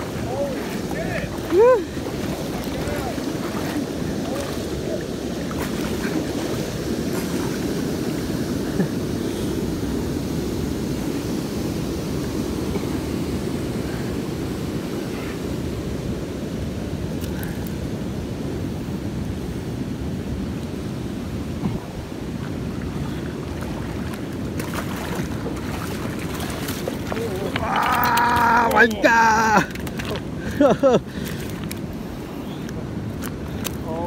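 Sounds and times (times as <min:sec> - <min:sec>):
river running over rocks: 0:00.0 - 0:19.2, 0:20.0 - 0:34.0.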